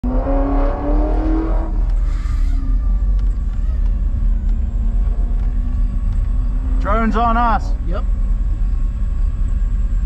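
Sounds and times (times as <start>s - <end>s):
car engine idling: 1.2s - 10.0s.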